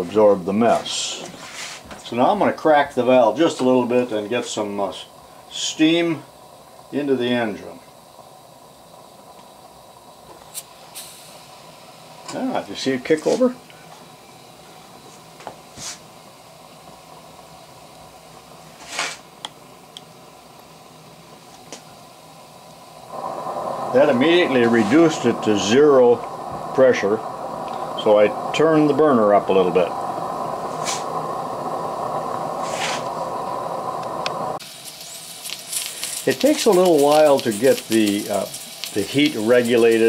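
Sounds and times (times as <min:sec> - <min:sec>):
steam engine exhaust hissing: 0:00.0 - 0:40.0.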